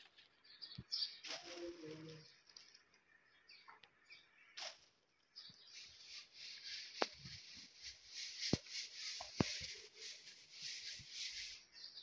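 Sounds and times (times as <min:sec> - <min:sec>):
birds twittering: 0:00.0 - 0:12.0.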